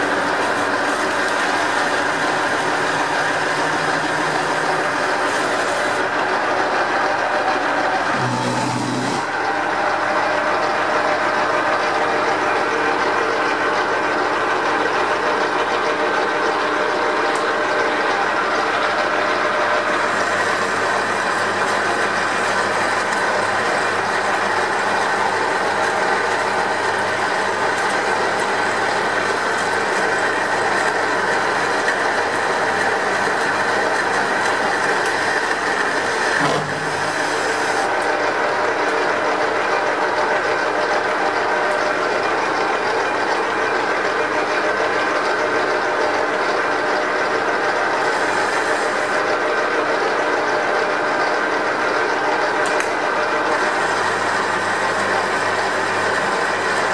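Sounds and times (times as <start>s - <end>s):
metal lathe gear whine: 0.0s - 56.9s.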